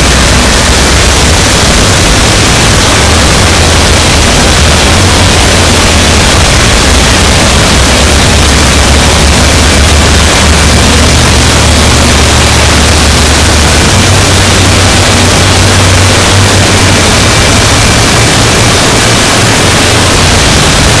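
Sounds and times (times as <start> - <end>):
distorted static: 0.0 - 21.0
heavy low rumble: 0.0 - 21.0.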